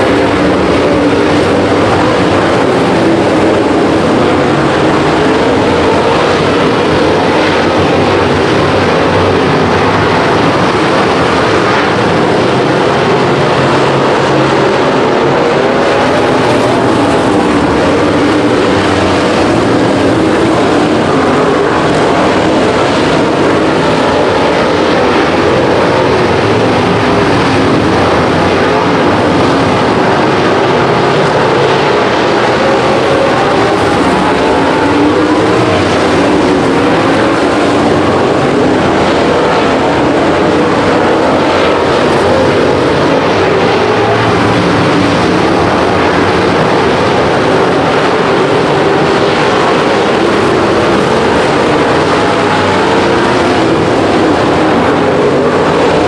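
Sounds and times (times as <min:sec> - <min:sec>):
race car engines running hard: 0:00.0 - 0:56.0.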